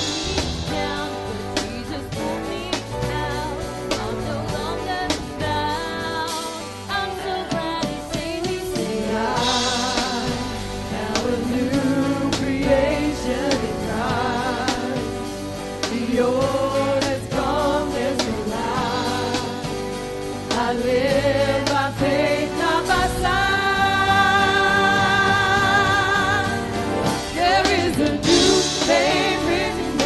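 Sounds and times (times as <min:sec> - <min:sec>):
congregation singing a gospel song: 0:00.0 - 0:30.0
instrumental accompaniment: 0:00.0 - 0:30.0.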